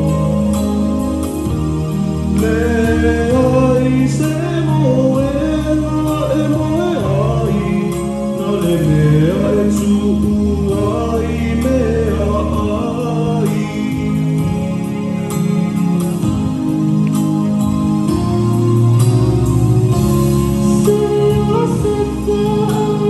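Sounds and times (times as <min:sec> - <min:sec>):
held low chords: 0:00.0 - 0:23.0.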